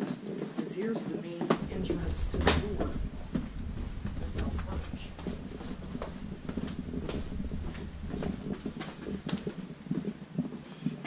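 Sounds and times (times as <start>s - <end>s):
footsteps on brick steps: 0.0s - 11.0s
steady low rumble: 1.5s - 10.4s.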